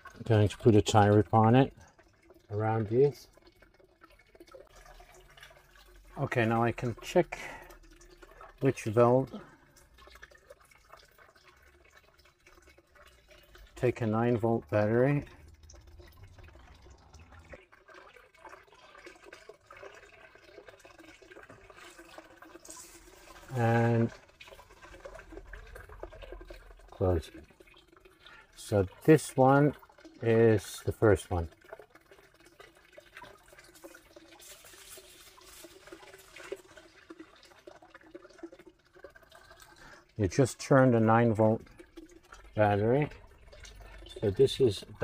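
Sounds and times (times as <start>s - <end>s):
water trickling and gurgling: 0.0s - 45.0s.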